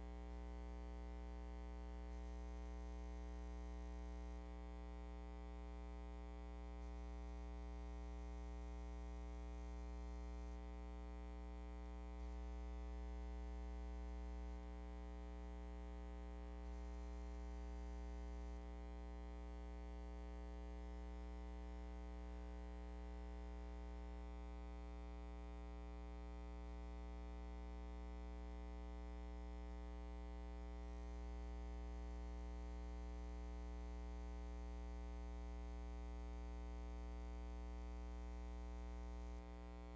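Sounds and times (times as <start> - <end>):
mains hum: 0.0 - 39.9.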